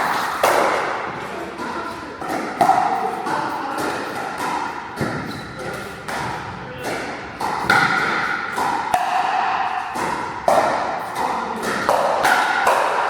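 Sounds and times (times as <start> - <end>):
ball bouncing: 0.0 - 13.0
paddles striking plastic ball: 1.6 - 13.0.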